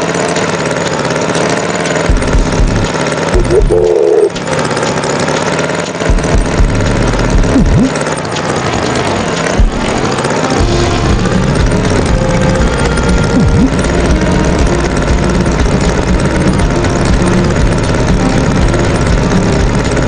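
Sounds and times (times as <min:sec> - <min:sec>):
tractor engine rumbling: 0:00.0 - 0:20.0.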